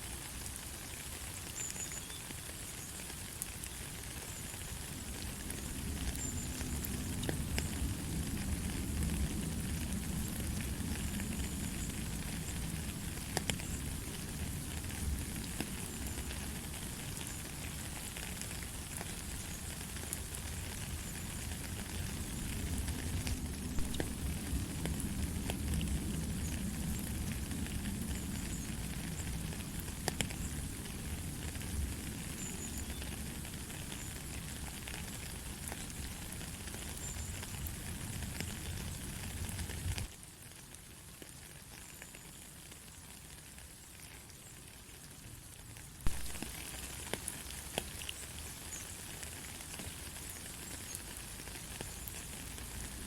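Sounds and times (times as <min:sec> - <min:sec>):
light rain hiss: 0:00.0 - 0:53.0
raindrops ticking: 0:00.2 - 0:42.7, 0:46.0 - 0:53.0.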